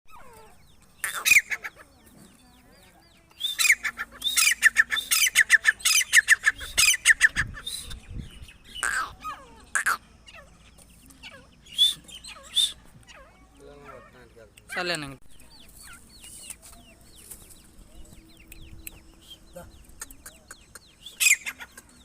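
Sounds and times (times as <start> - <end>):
francolin calling: 0.1 - 2.0, 3.2 - 17.4, 18.0 - 22.0.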